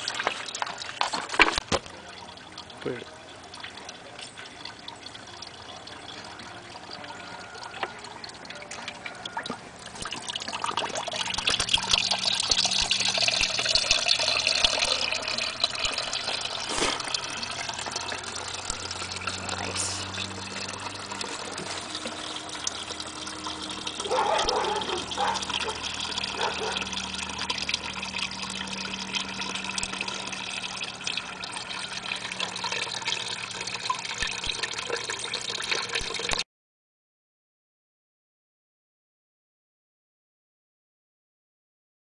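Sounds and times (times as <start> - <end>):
juice pouring into a bucket: 0.0 - 36.4.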